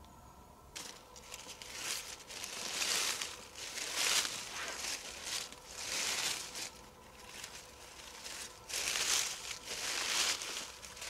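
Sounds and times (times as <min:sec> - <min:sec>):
footsteps through fallen leaves: 0:00.8 - 0:11.0.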